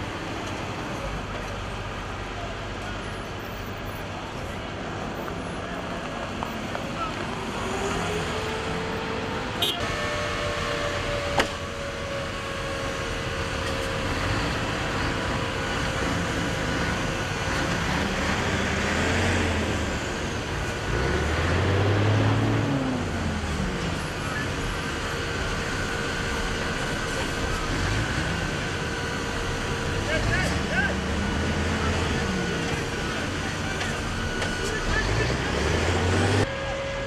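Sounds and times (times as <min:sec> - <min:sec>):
fire truck engines running: 0:00.0 - 0:37.0.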